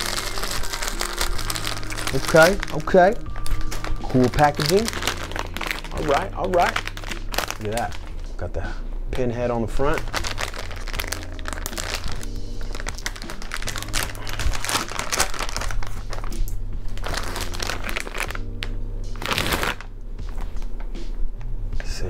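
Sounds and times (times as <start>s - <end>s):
plastic bag crinkling: 0.0s - 8.3s, 9.8s - 16.4s, 17.0s - 18.5s, 19.2s - 20.5s
background music with bass: 0.0s - 22.0s.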